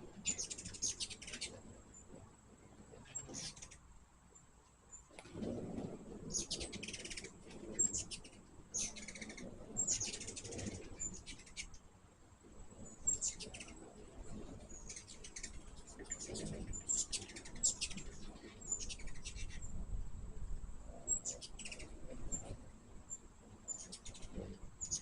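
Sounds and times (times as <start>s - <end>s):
hummingbirds chattering: 0.0s - 19.8s, 20.5s - 25.0s.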